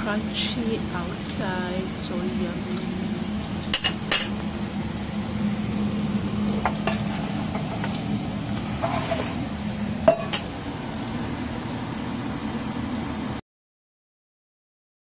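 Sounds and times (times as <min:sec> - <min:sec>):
kitchen hum and hiss: 0:00.0 - 0:13.4.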